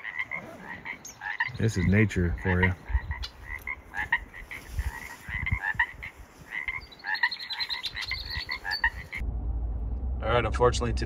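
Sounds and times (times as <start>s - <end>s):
frogs croaking: 0.0s - 9.2s.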